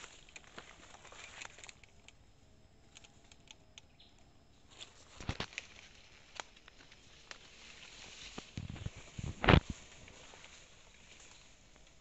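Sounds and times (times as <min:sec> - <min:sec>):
dry twigs and leaves crackling: 0:00.0 - 0:02.2, 0:02.9 - 0:12.0.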